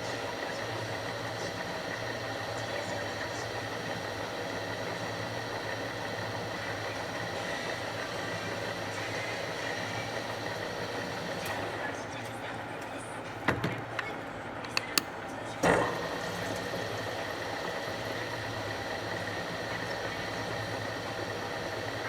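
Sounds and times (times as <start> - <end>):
milling machine humming and whining: 0.0 - 22.0.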